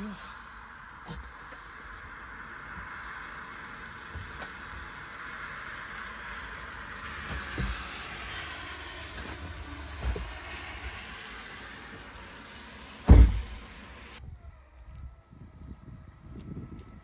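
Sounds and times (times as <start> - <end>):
truck road and wind noise: 0.0 - 17.0.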